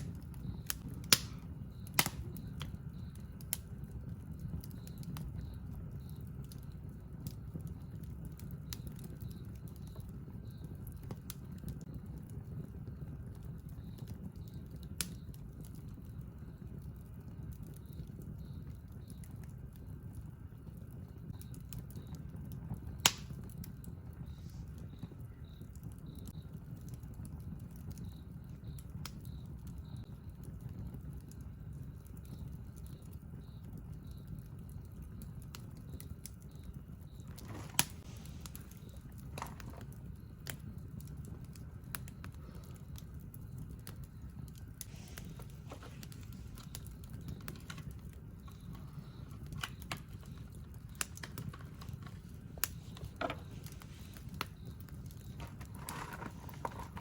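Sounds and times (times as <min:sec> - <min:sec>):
campfire rumbling: 0:00.0 - 0:57.0
fire crackling and popping: 0:00.0 - 0:57.0.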